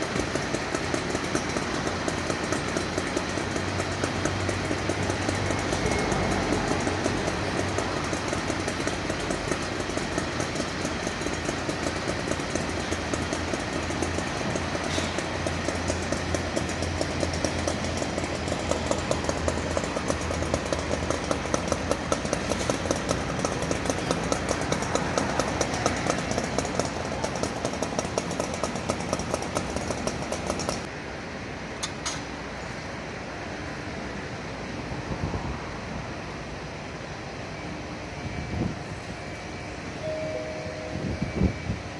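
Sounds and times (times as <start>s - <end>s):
vehicle engine clattering: 0.0s - 30.9s, 31.8s - 32.7s, 38.2s - 41.9s.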